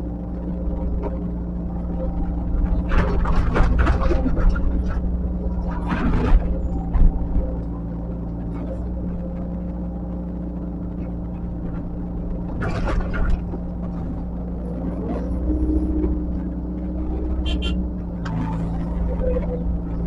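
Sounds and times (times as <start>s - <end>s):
heavy diesel machine running: 0.0s - 20.0s.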